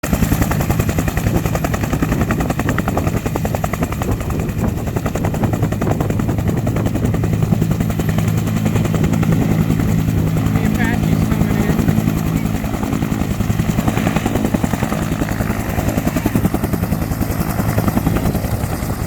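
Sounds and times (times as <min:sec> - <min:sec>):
helicopter rotor beating: 0:00.0 - 0:19.0
turbine engine hum: 0:00.0 - 0:19.0.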